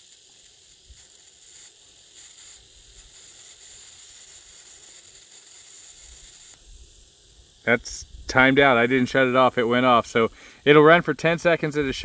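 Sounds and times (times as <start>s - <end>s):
plasma lighter electric hiss: 0.0s - 12.0s.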